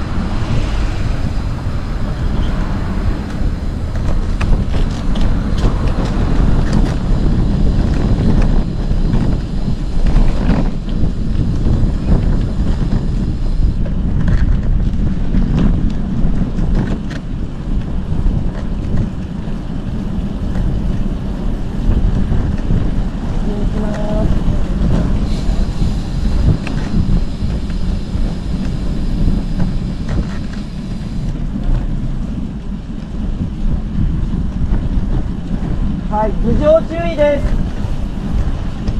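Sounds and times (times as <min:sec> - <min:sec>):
bicycle road noise: 0:00.0 - 0:38.9
wind rushing over microphone: 0:00.0 - 0:38.9.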